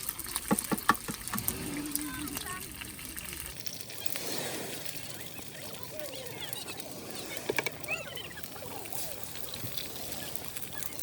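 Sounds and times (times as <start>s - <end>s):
steady hiss: 1.1s - 11.0s
distant voices and calls: 1.5s - 11.0s.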